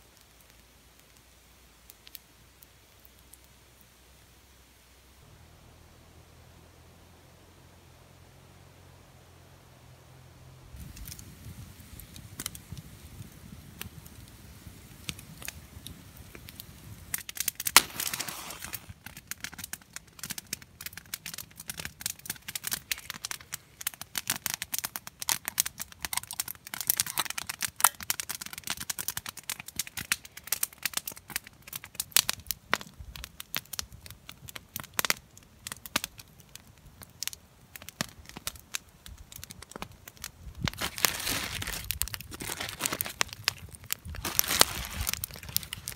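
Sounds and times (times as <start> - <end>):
campfire crackling and popping: 0.0 - 4.3, 10.7 - 45.9.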